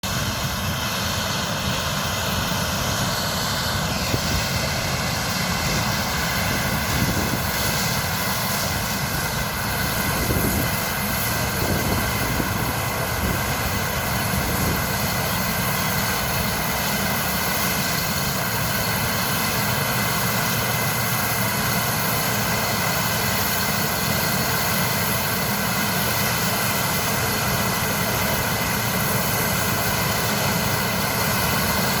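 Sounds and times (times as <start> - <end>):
harvester mechanical drone: 0.0 - 32.0.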